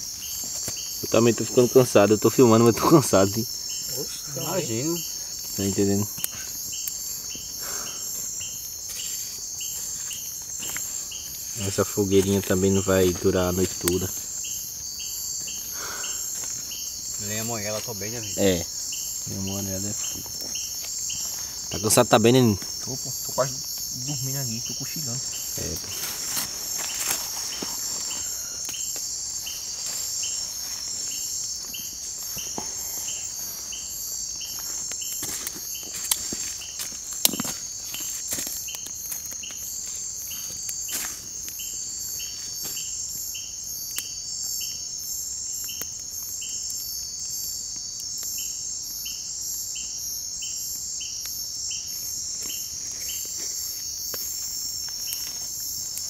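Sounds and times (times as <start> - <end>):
insect chirps: 0.0 - 56.0
insects trilling: 0.0 - 56.0.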